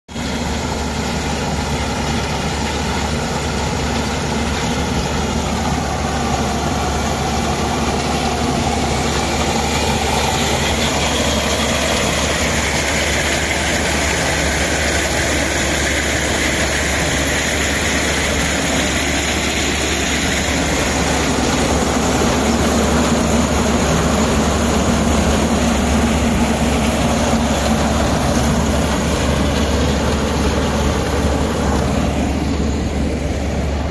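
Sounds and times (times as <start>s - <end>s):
harvester engine and machinery: 0.1s - 33.9s.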